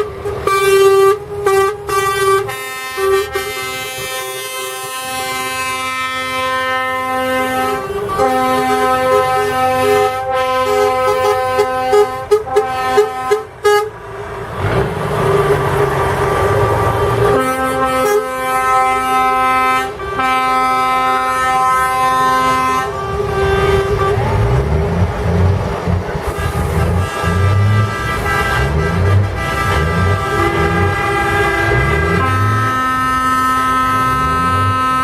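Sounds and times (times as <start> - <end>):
vehicle horns sounding: 0.0 - 14.0, 17.1 - 24.8, 26.2 - 35.0
engines rumbling: 0.0 - 35.0.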